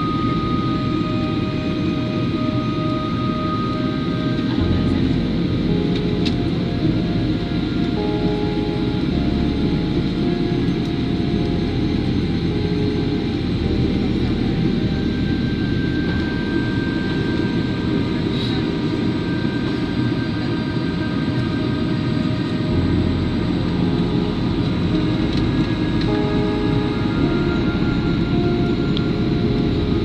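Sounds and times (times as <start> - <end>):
faint whining tones: 0.0 - 30.0
jet engine cabin rumble: 0.0 - 30.0.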